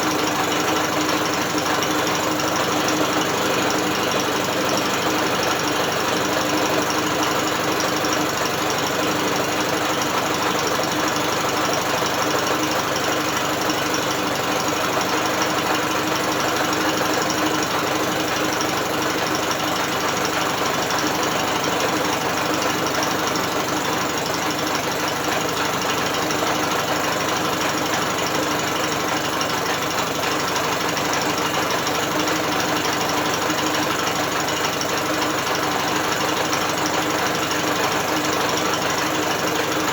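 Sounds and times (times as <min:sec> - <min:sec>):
outboard motor spun by drill: 0:00.0 - 0:39.9.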